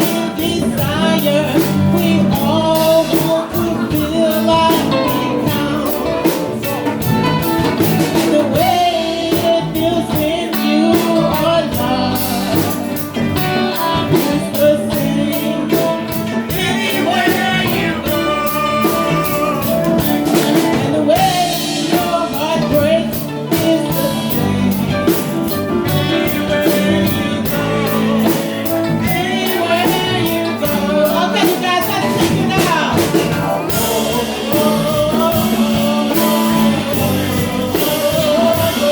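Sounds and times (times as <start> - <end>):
guitar: 0.0 - 38.9
person singing: 0.0 - 38.9
steady drum beat: 0.0 - 38.9.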